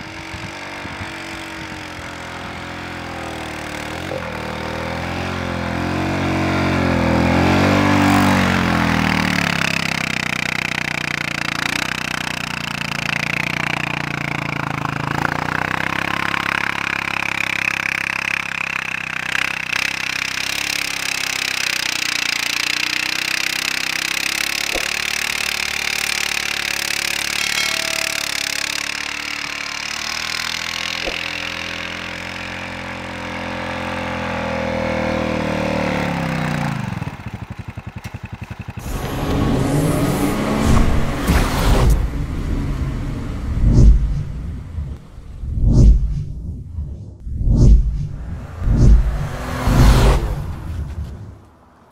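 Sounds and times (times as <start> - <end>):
atv engine running under load: 0.0 - 45.3.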